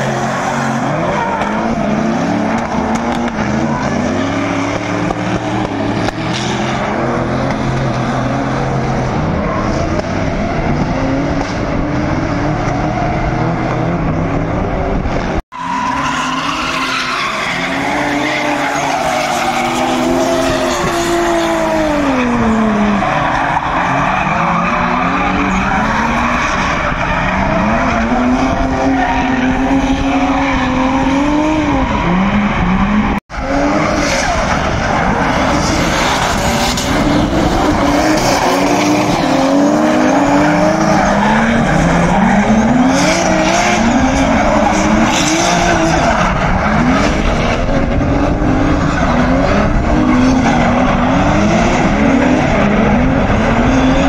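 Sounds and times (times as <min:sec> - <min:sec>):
tyres squealing and skidding: 0:00.0 - 0:11.8, 0:15.5 - 0:54.0
car engines revving: 0:00.0 - 0:54.0.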